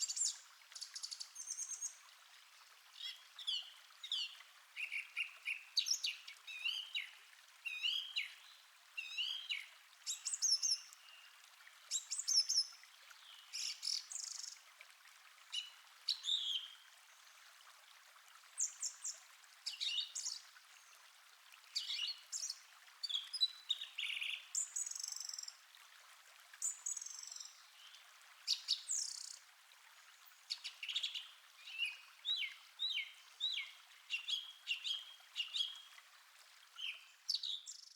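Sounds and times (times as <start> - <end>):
calm stream hiss: 0.0 - 37.9.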